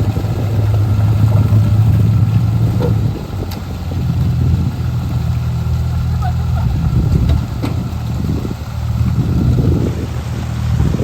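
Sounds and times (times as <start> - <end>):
large engine humming: 0.0 - 11.0.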